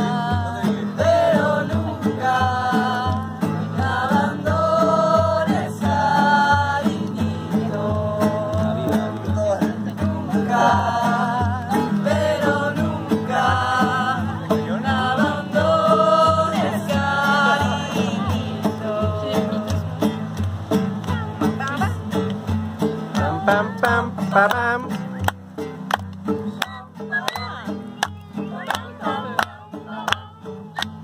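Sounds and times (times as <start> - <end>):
song with singing and guitar: 0.0 - 31.0.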